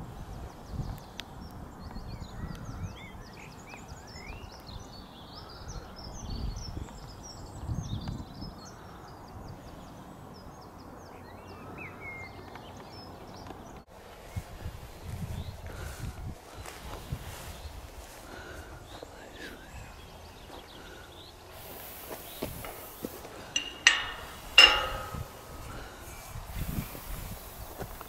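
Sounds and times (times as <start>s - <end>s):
wind gusts on microphone: 0.0s - 12.4s, 14.2s - 28.0s
small birds chirping: 0.0s - 28.0s.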